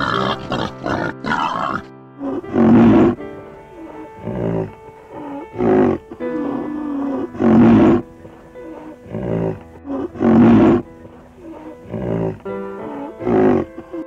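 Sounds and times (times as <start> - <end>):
rhinoceros giving rough calls: 0.0 - 14.0
soft background music: 0.0 - 14.0.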